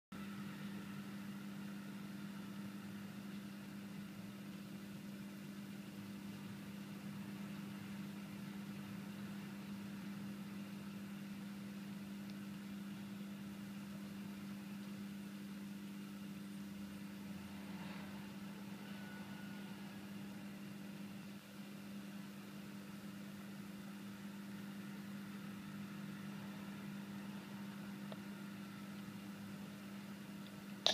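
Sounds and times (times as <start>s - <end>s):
low machine hum: 0.2s - 30.9s.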